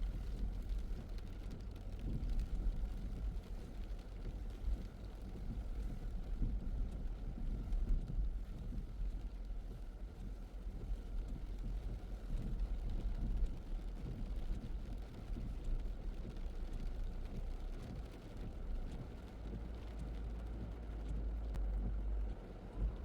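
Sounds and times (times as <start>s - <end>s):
car driving on wet road: 0.0s - 23.0s.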